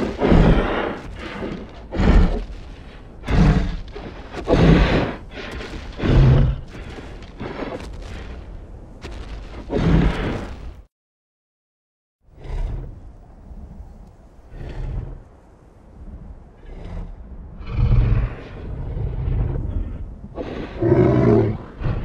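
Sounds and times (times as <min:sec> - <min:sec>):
low rumble: 0:00.0 - 0:10.9, 0:12.2 - 0:20.8.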